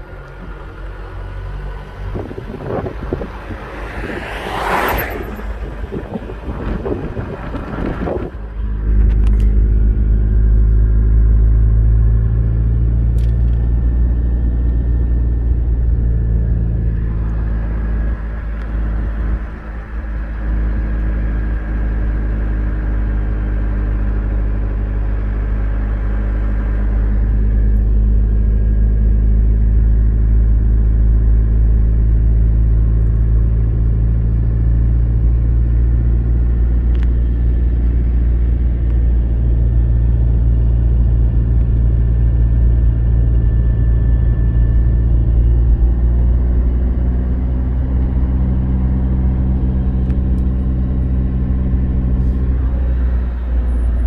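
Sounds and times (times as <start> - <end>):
car engine and tyre drone: 0.0 - 54.0.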